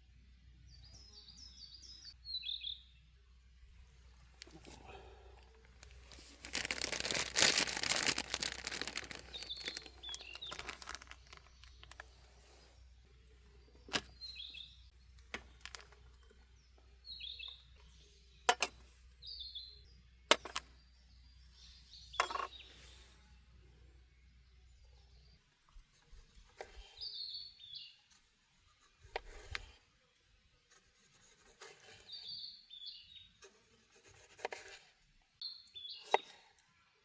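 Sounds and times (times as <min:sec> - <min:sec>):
small birds chirping: 0:00.6 - 0:37.0.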